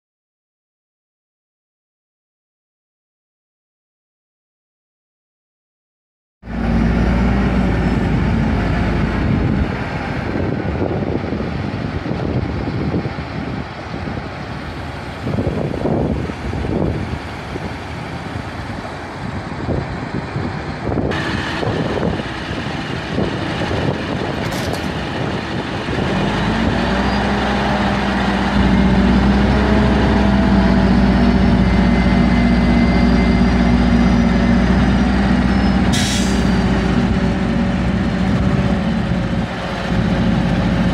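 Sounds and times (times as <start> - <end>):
crane diesel engine running: 6.4 - 40.9.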